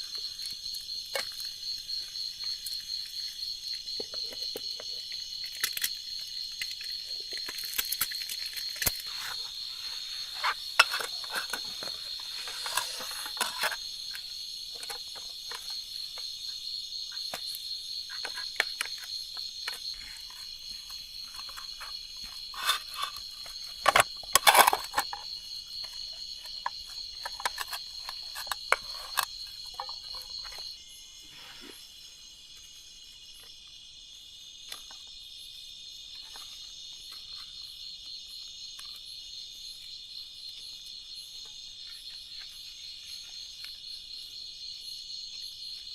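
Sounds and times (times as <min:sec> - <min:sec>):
crickets chirring: 0:00.0 - 0:45.9.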